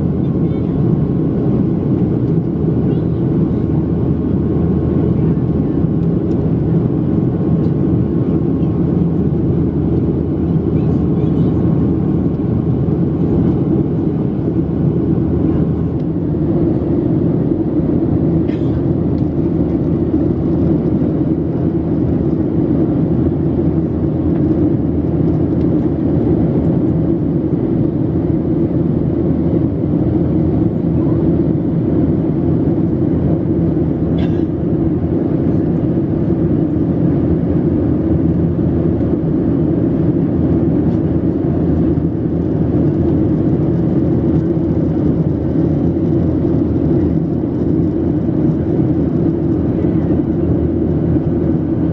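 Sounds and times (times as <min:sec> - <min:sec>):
jet engines low rumble: 0:00.0 - 0:51.9.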